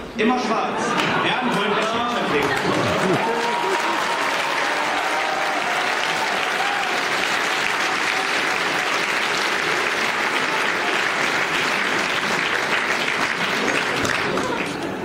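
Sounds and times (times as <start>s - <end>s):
audience applauding: 1.2s - 15.0s.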